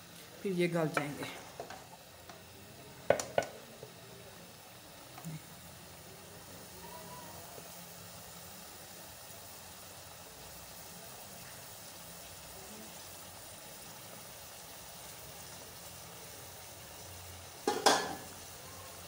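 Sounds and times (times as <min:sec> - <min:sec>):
food hissing in a pot: 0:00.0 - 0:19.0.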